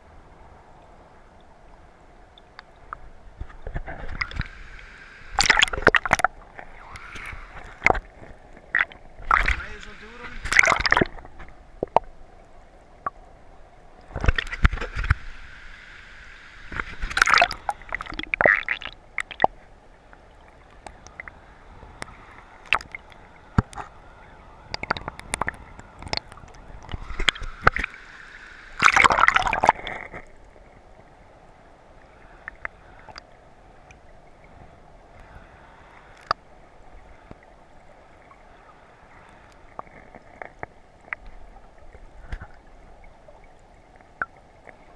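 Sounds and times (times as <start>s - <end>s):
river water gurgling: 0.6s - 44.9s.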